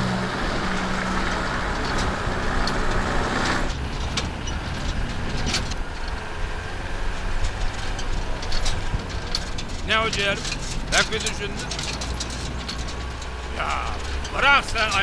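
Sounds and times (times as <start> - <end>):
clicks and rattles: 0.0 - 15.0
truck engine and road noise: 0.0 - 15.0.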